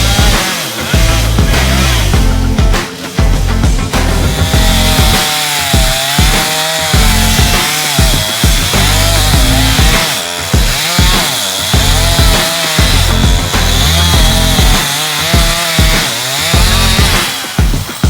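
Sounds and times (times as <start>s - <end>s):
chainsaw cutting wood: 0.0s - 18.0s
music with heavy beat: 0.0s - 18.0s.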